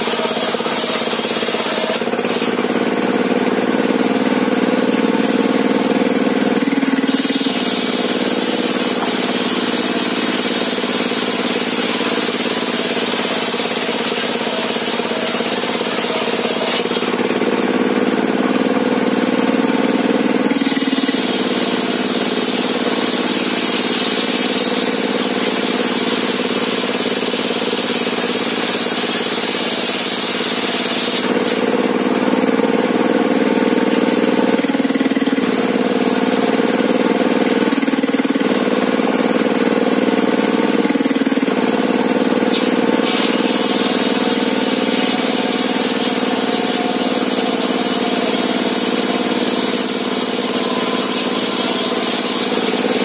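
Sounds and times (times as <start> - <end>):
table saw engine running: 0.0 - 53.0.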